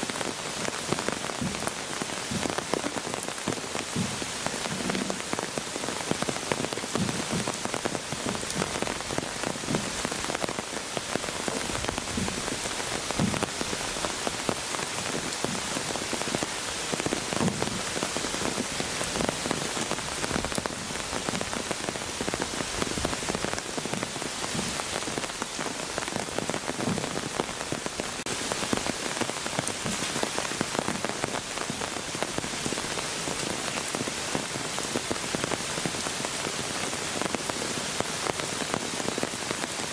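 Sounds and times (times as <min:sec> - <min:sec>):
rain falling: 0:00.0 - 0:39.9
raindrops striking close by: 0:00.0 - 0:39.9.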